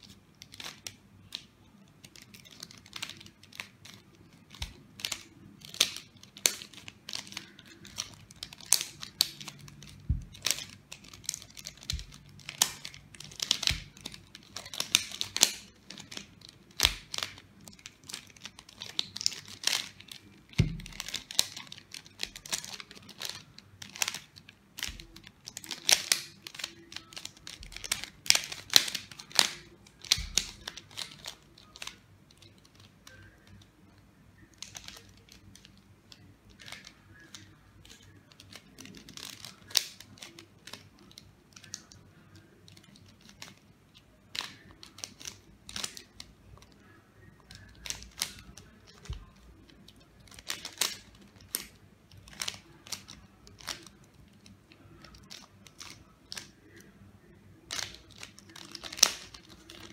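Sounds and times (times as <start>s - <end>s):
puzzle cube clicking and clacking: 0.1s - 33.7s, 34.4s - 56.9s, 57.6s - 59.9s.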